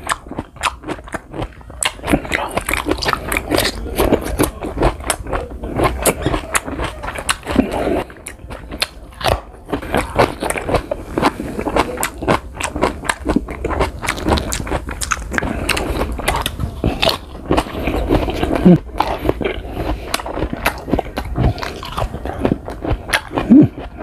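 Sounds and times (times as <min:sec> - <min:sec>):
crunching and chewing guava: 0:00.0 - 0:24.0.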